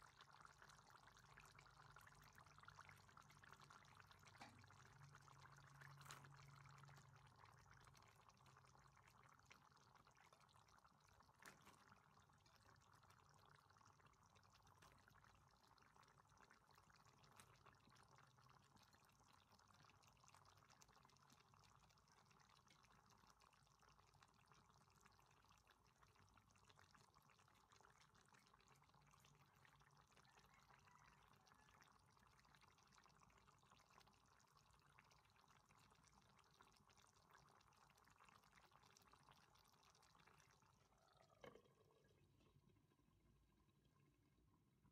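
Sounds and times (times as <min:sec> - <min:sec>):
sauce simmering with bubbling pops: 0:00.0 - 0:44.9.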